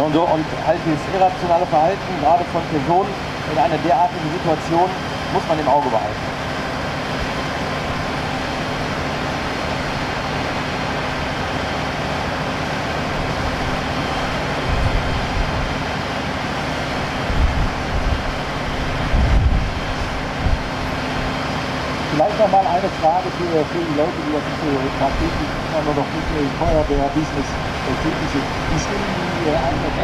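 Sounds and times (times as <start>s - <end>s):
vehicle engines running: 0.0s - 30.0s.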